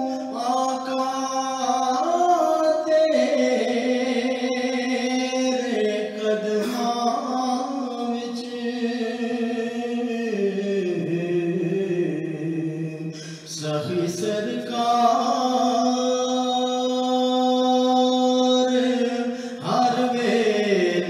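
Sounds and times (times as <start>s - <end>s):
man singing long notes: 0.0s - 21.0s.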